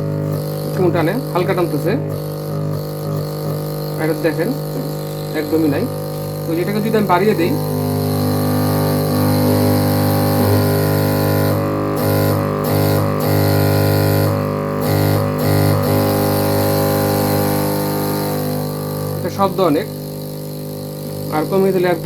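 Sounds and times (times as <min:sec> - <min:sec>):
compressor motor hum: 0:00.0 - 0:22.0.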